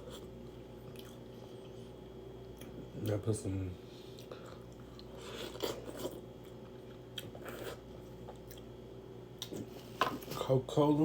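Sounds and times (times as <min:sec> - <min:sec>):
person chewing food: 0:00.0 - 0:03.2, 0:04.0 - 0:08.8, 0:09.4 - 0:10.4.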